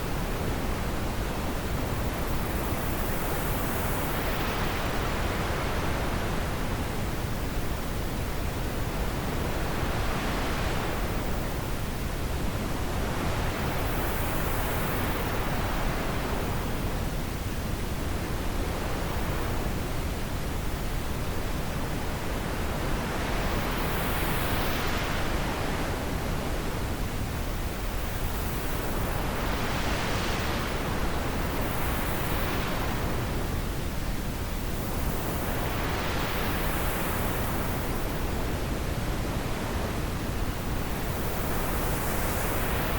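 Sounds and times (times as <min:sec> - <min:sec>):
wind blowing in gusts: 0:00.0 - 0:42.9.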